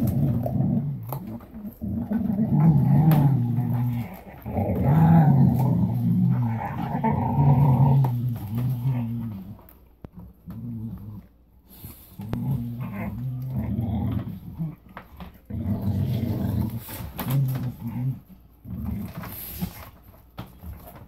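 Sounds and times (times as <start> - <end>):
dog growling: 0.0 - 19.9.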